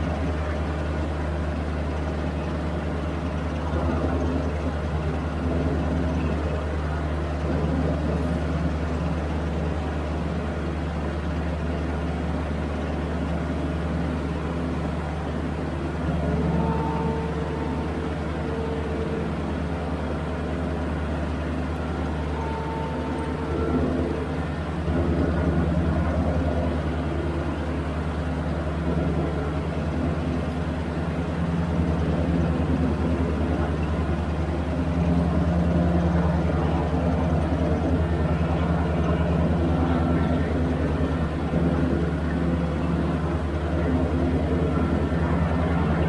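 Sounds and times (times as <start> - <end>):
mower diesel engine running: 0.0 - 46.0.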